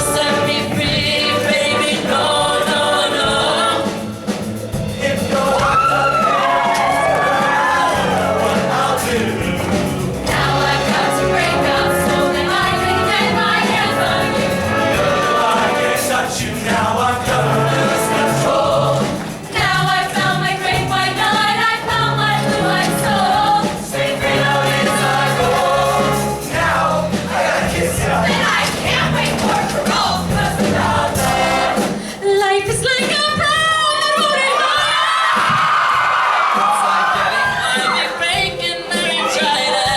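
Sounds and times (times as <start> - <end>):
instrumental accompaniment with bass: 0.0 - 33.9
vocal group singing: 0.0 - 39.9.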